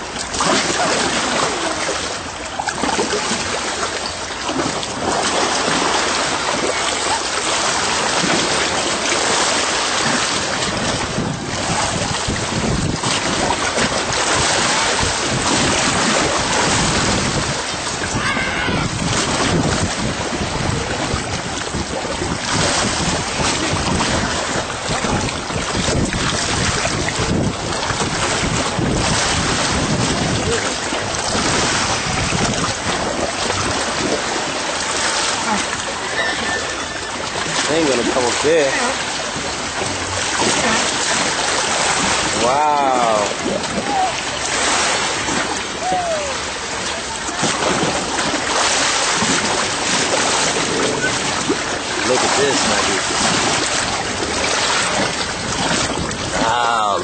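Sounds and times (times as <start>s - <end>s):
shallow water washing and splashing: 0.0s - 57.0s
wind buffeting microphone: 0.0s - 57.0s.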